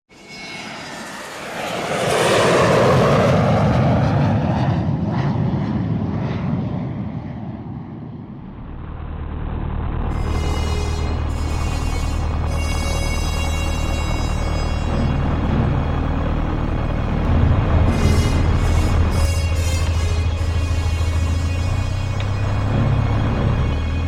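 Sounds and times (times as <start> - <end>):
light aircraft engine and propeller: 0.1 - 24.0.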